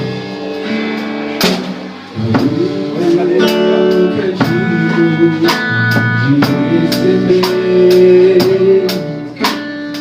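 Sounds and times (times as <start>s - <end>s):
bass: 0.0s - 10.0s
drum kit hitting: 0.0s - 10.0s
held guitar chords: 0.0s - 10.0s.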